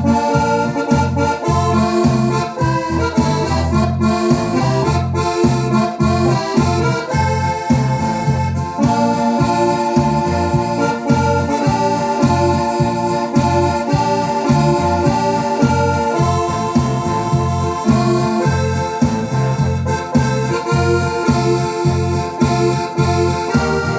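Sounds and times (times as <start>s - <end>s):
electronic keyboard chords: 0.0s - 23.9s
pulsing bass accompaniment: 0.0s - 23.9s.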